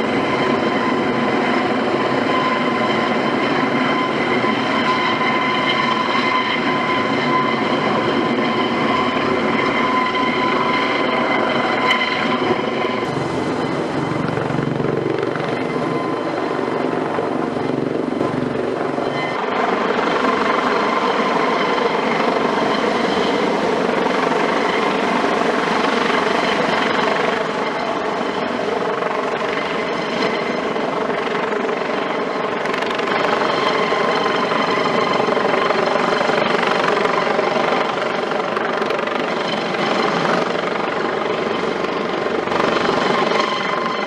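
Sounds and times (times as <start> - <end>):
helicopter turbines and rotors: 0.0 - 44.0.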